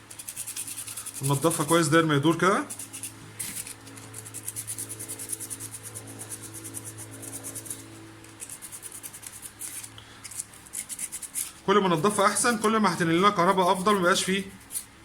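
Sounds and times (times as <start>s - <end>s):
sandpaper scrubbing metal: 0.0s - 15.0s.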